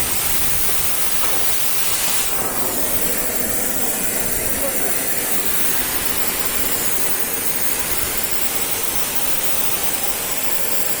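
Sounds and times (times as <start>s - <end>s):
loud steady hissing: 0.0s - 11.0s.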